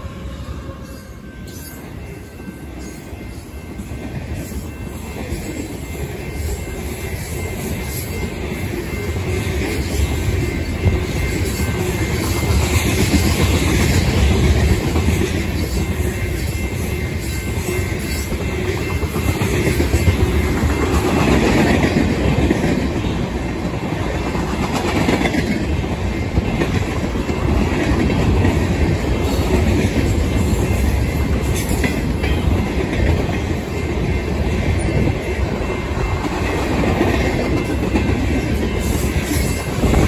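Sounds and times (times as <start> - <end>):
steel wheels rumbling on rails: 0.0 - 40.0.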